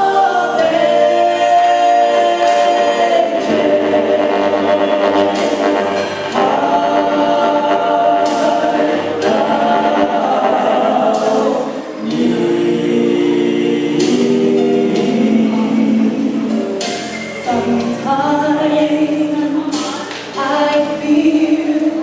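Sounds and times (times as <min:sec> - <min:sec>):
choir singing sacred song: 0:00.0 - 0:19.8.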